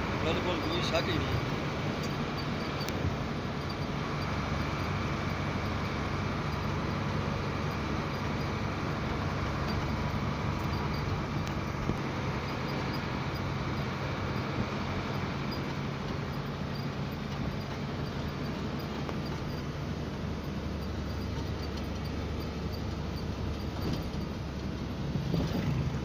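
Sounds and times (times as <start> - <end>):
road noise: 0.0 - 26.0
truck diesel engine running: 0.0 - 26.0.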